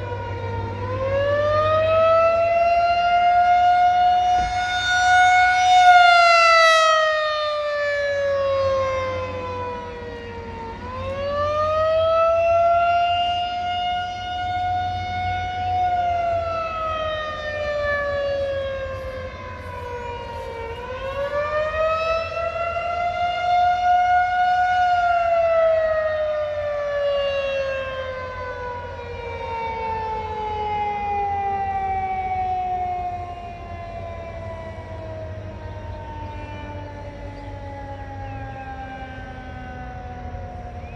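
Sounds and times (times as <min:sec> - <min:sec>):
tornado siren wailing: 0:00.0 - 0:40.9.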